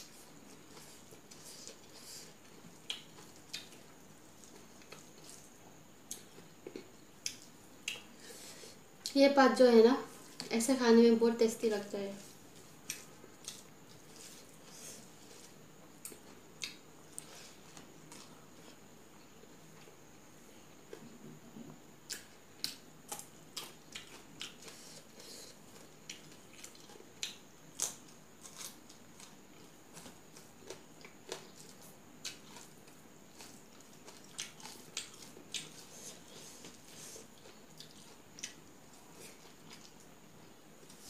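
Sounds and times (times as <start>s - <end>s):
person chewing and crunching: 0.0s - 8.1s, 12.2s - 18.8s, 22.1s - 41.0s.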